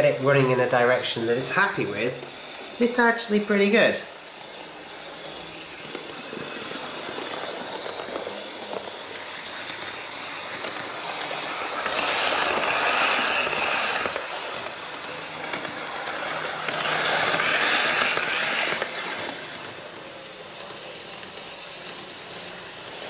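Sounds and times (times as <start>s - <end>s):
model trains whirring and rattling: 0.0s - 23.0s.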